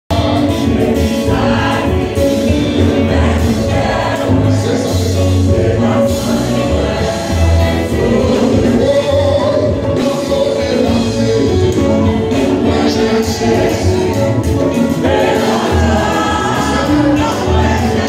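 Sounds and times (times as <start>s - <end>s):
congregation singing gospel song: 0.1s - 18.0s.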